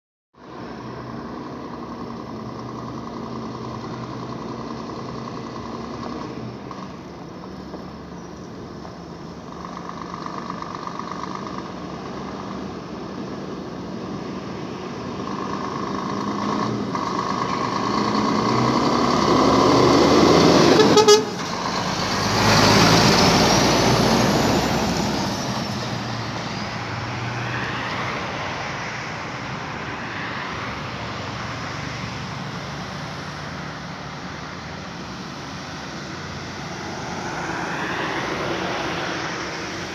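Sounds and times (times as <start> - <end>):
truck passing by: 0.4 - 39.9.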